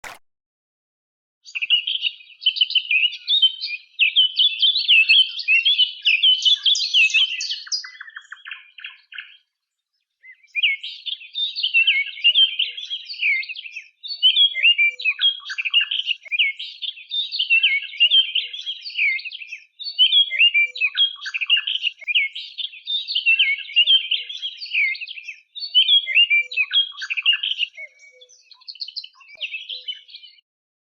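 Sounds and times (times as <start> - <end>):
songbird warbling: 1.5 - 9.4, 10.2 - 30.4.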